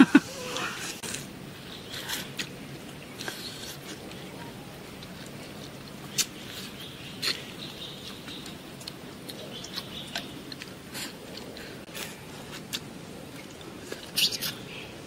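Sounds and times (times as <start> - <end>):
chewing and smacking: 1.9 - 14.6.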